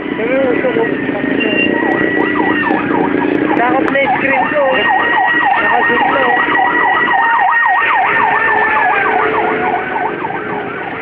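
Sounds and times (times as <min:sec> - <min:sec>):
fire truck siren yelping: 0:00.0 - 0:11.0
steady siren tone: 0:00.0 - 0:11.0.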